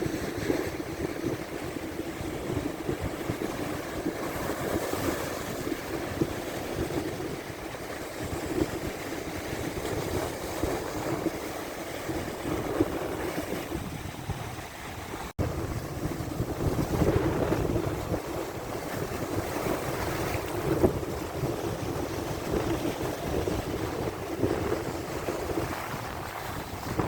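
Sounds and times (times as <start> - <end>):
waves breaking on shore: 0.0 - 27.0
wind buffeting microphone: 0.0 - 27.0.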